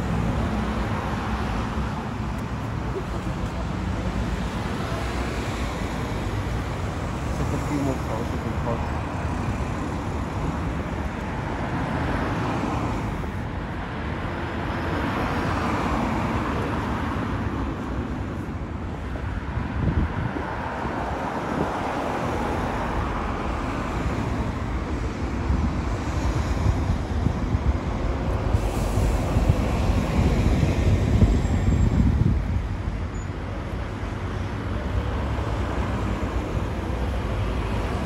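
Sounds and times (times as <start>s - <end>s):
cars driving past: 0.0s - 38.0s.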